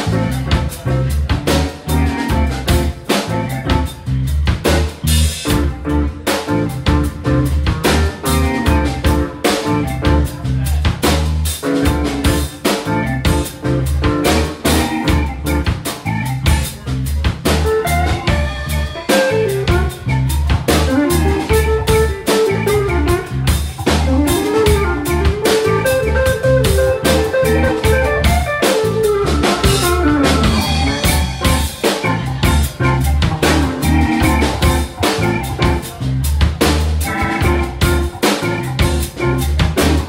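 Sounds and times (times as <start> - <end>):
drum kit beat with rimshots: 0.0 - 40.0
electric bass: 0.0 - 40.0
electric guitar lead line: 0.0 - 40.0
keyboard: 0.0 - 40.0.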